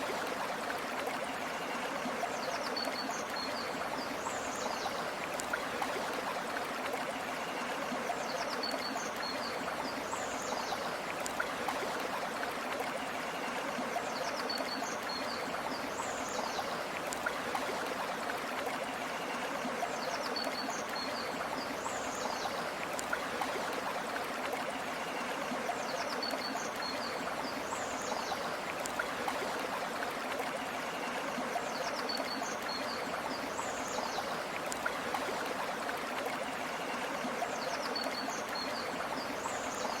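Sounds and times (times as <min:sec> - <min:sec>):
river water flowing: 0:00.0 - 0:40.0.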